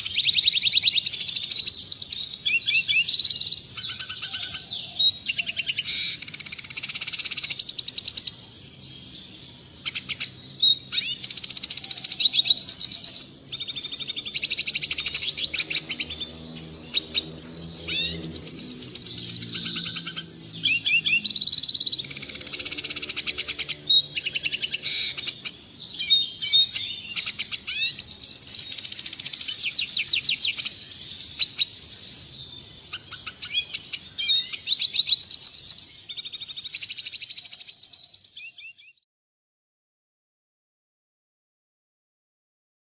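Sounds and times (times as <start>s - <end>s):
bird twittering song: 0.0s - 39.0s.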